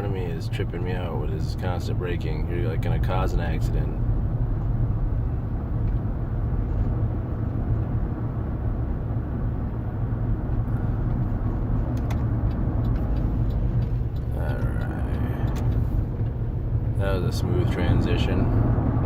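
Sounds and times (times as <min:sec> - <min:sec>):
car engine rumble: 0:00.0 - 0:19.0
road noise: 0:00.0 - 0:19.0.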